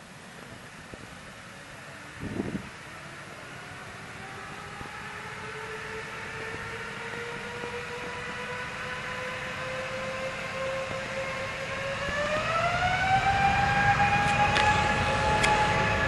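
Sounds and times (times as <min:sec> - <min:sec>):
jet engine low rumble: 0:00.0 - 0:16.0
jet engine whine: 0:00.0 - 0:16.0.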